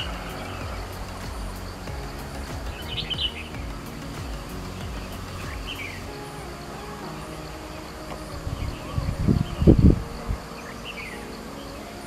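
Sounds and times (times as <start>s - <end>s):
outdoor background: 0.0s - 12.0s.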